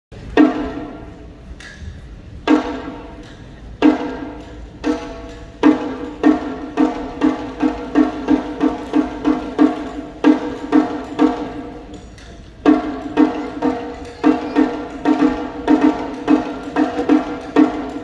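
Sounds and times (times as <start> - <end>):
taiko drum beaten with sticks: 0.2 - 18.0.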